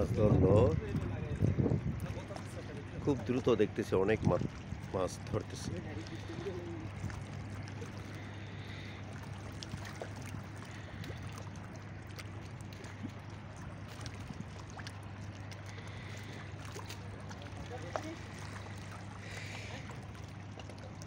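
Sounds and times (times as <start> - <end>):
faint water wash: 0.0 - 21.0
low engine drone: 0.0 - 21.0.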